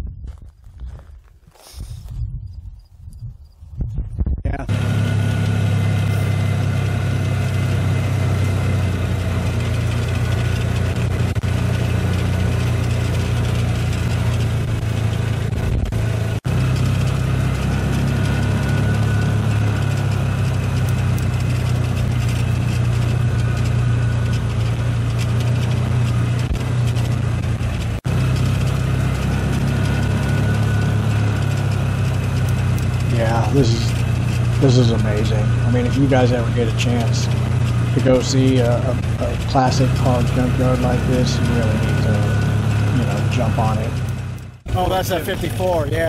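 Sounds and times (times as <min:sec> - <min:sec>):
vehicle engine low drone: 0:01.6 - 0:46.0.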